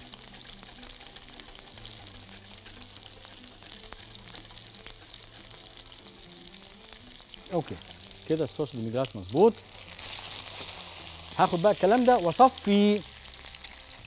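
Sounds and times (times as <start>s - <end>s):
sauce bubbling: 0.0s - 14.0s.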